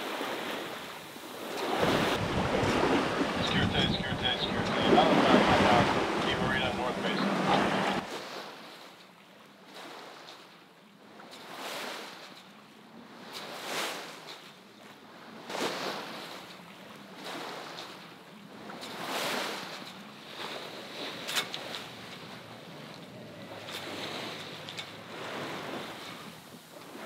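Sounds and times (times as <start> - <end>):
water splashing along boat hull: 0.0 - 27.0.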